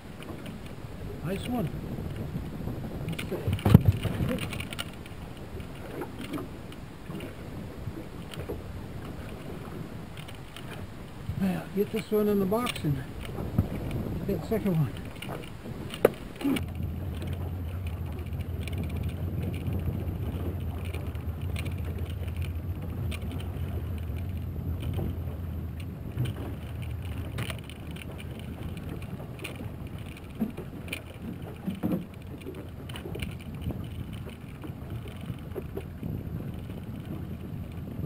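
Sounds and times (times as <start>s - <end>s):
outboard motor humming: 0.0s - 38.0s
water: 0.0s - 38.0s
wind noise: 0.0s - 38.0s
fishing gear knocks and clicks: 0.1s - 7.4s, 8.2s - 11.0s, 11.7s - 38.0s.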